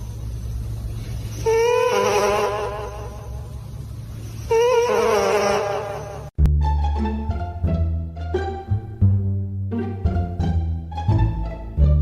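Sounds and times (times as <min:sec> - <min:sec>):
steady low rumble: 0:00.0 - 0:01.8, 0:02.5 - 0:04.8, 0:06.2 - 0:12.0.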